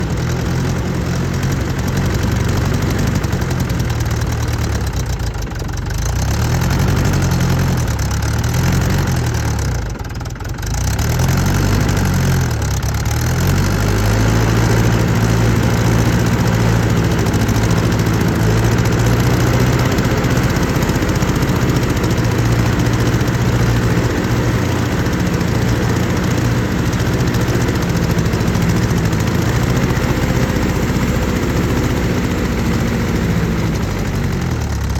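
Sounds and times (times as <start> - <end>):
tractor diesel engine surging: 0.0 - 34.9.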